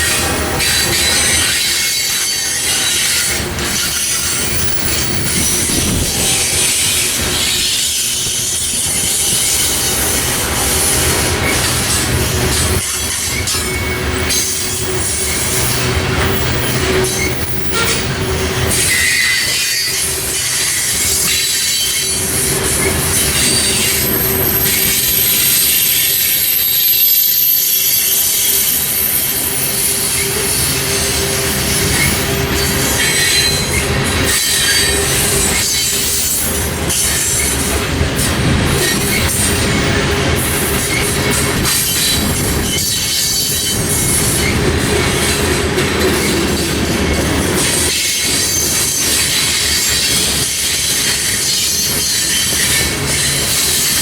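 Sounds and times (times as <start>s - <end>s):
freight train rolling past: 0.0s - 54.0s
train wheels squealing on rails: 0.0s - 54.0s.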